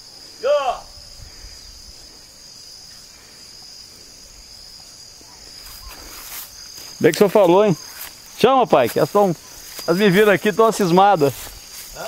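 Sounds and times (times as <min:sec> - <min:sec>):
insects shrilling: 0:00.0 - 0:12.0
faint rustle: 0:01.1 - 0:12.0.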